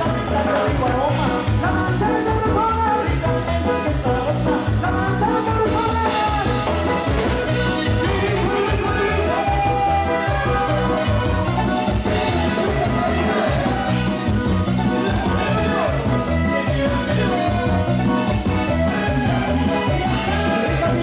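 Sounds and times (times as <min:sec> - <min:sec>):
latin dance music: 0:00.0 - 0:21.0.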